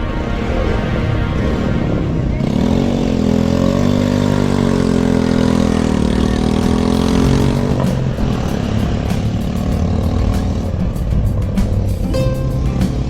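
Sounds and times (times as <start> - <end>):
low rumbling noise: 0.0 - 13.0
vehicle engine running: 1.8 - 13.0.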